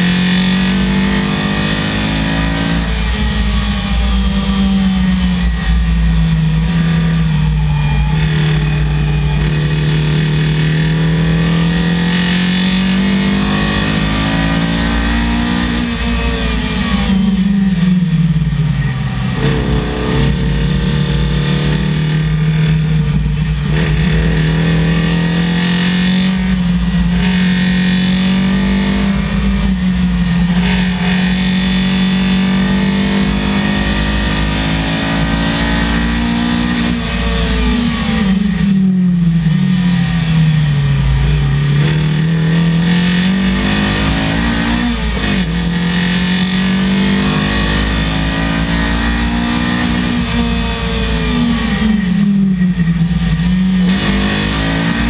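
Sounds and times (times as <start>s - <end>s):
rally car engine pulling: 0.0s - 55.0s.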